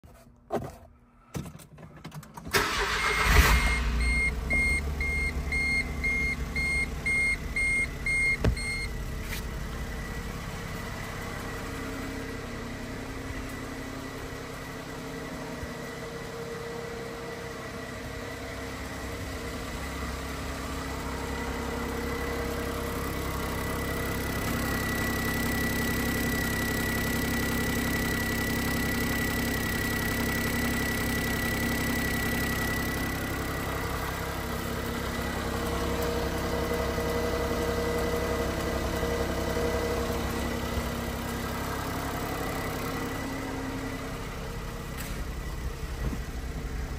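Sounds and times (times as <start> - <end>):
car engine starting and idling: 0.4 - 46.9.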